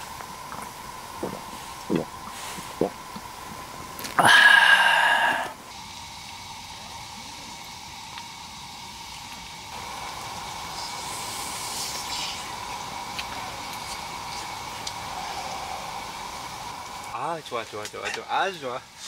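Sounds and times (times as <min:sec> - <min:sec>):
faint high whine: 0:00.0 - 0:17.6
steady hiss: 0:00.0 - 0:19.0.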